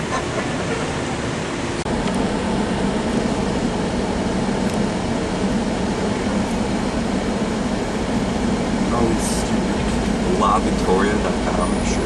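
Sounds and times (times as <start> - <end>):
even low hum: 0.0 - 12.0
vehicle rumble and hiss: 0.0 - 12.0.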